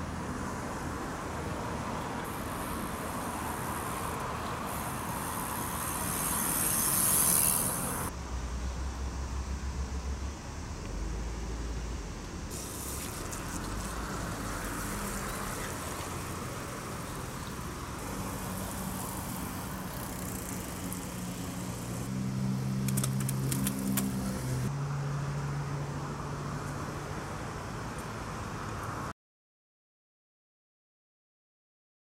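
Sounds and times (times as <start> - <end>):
vehicle low engine hum: 0.0 - 29.1
road traffic on bridge: 0.0 - 29.2.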